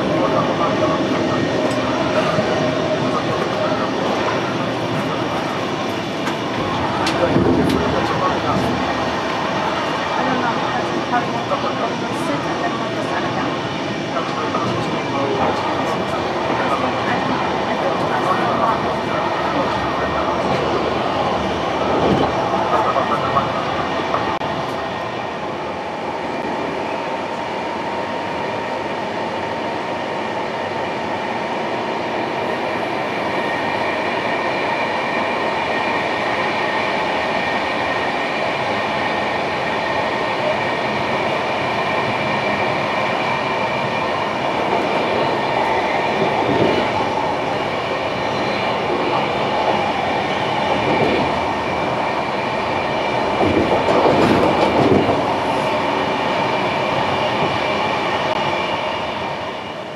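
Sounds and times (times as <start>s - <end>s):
train wheels rumbling: 0.0s - 25.7s, 32.3s - 59.9s.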